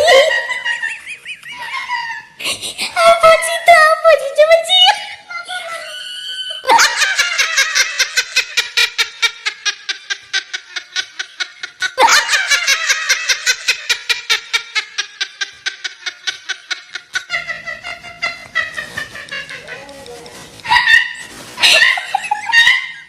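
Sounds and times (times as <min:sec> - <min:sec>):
high-pitched laughter: 0:00.0 - 0:03.5, 0:05.5 - 0:23.0.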